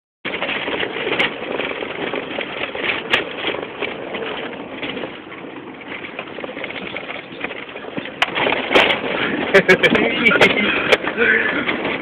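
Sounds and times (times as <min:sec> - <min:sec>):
car body rattling: 0:00.3 - 0:12.0
car engine running: 0:00.3 - 0:12.0.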